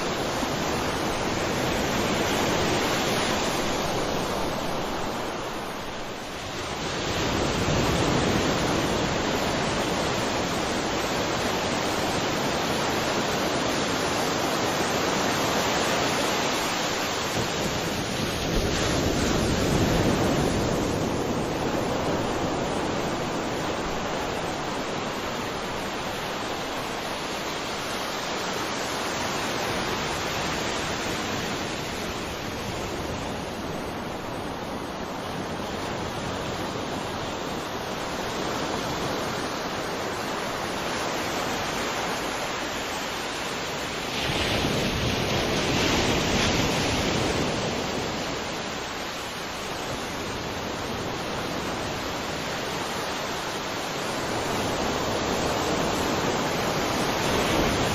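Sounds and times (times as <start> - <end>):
ocean surf washing on shore: 0.0 - 57.9.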